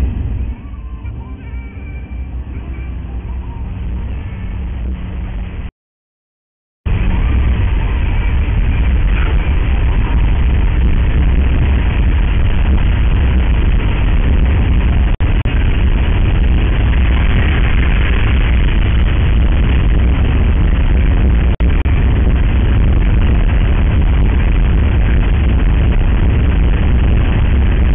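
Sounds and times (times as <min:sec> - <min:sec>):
car road and engine noise: 0:00.0 - 0:05.7, 0:06.9 - 0:27.9.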